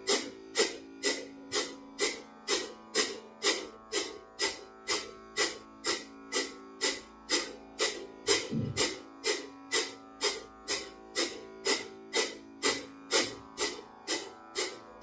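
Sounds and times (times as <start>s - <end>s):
background music with drone: 0.0s - 15.0s.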